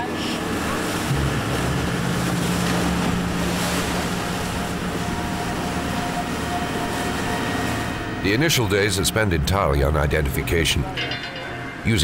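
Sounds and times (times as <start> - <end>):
motorboat engine drone: 0.0 - 11.9
water splashing along hull: 0.0 - 12.0.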